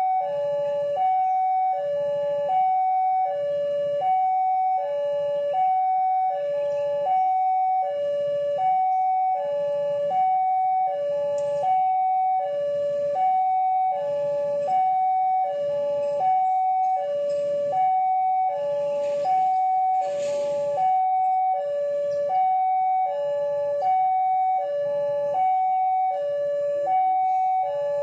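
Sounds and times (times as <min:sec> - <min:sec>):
two-tone electronic siren: 0:00.0 - 0:28.0.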